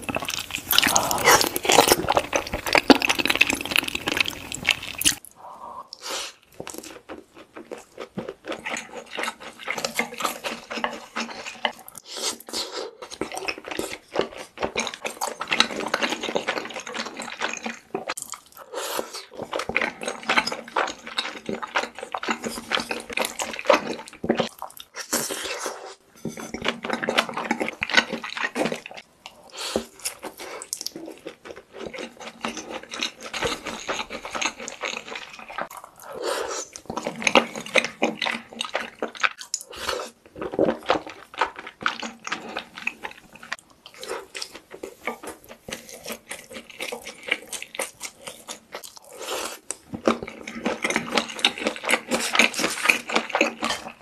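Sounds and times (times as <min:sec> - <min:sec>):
wet chewing and mouth smacking: 0:00.0 - 0:54.0.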